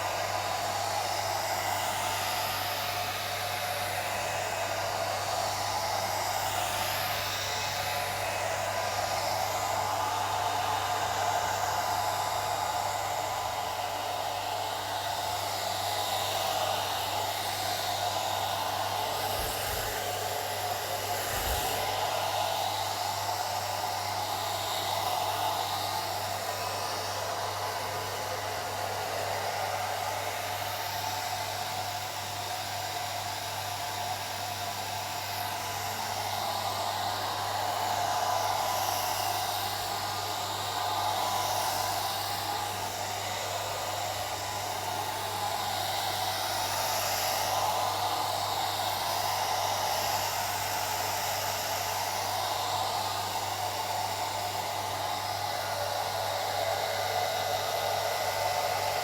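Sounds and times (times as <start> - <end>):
hair dryer blowing air: 0.0 - 59.0.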